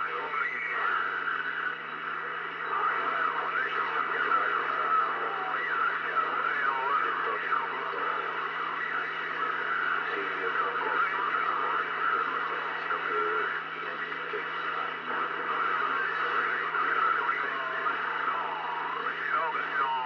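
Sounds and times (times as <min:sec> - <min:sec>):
faint garbled radio voices: 0:00.0 - 0:20.0
radio static: 0:00.0 - 0:20.0
wavering radio tones: 0:00.0 - 0:20.0.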